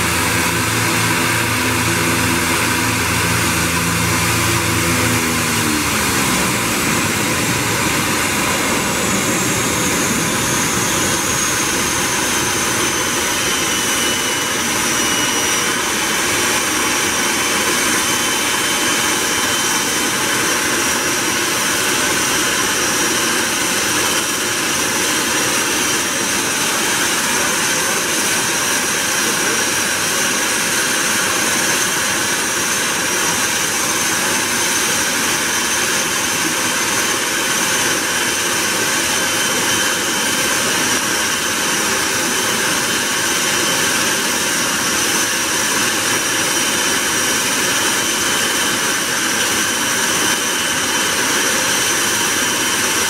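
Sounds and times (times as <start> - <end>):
turboprop engines idling: 0.0 - 53.0.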